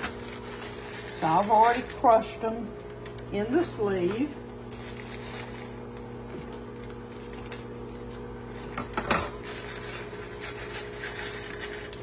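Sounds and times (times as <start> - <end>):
cracker packet crinkling: 0.0 - 12.0.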